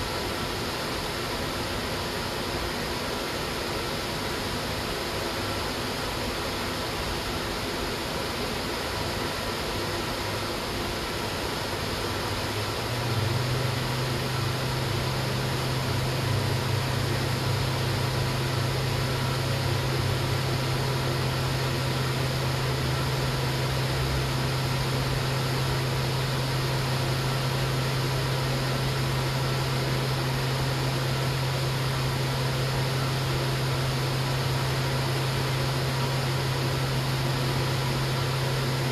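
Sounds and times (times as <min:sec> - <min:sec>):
low machine hum: 0:00.0 - 0:38.9
steady hiss: 0:00.0 - 0:38.9.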